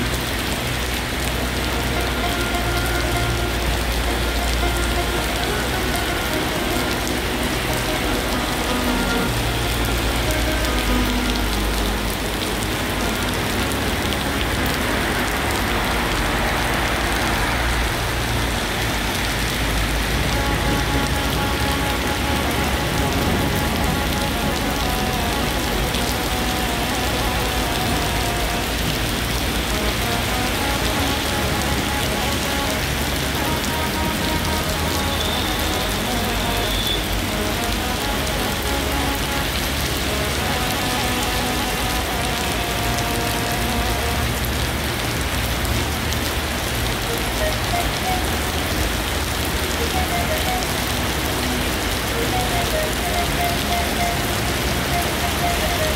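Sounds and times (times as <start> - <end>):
soft background music: 0.0 - 55.9
steady rain on pavement: 0.0 - 55.9.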